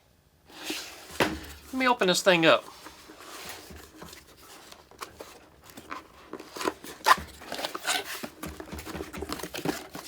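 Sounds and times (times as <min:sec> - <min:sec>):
cardboard scraping and rustling: 0:00.5 - 0:10.0.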